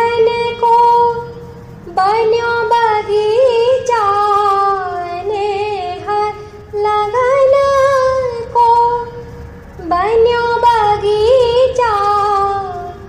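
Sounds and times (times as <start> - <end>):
woman singing devotional song: 0.0 - 13.0.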